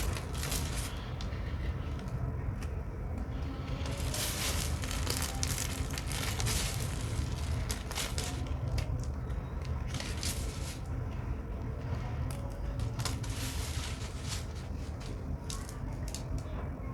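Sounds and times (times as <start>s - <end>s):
brittle soap crackling in a hand: 0.0s - 11.0s, 11.8s - 16.6s.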